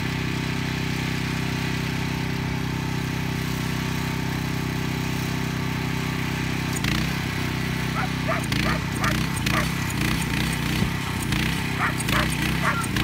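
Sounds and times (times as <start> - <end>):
engine idling: 1.2 - 13.0.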